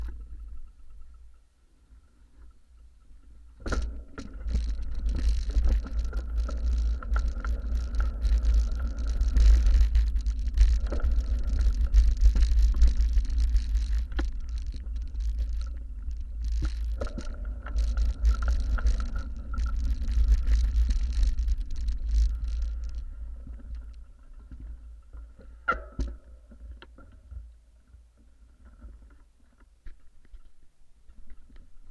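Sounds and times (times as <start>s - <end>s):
faint steady whine: 0.0s - 31.9s.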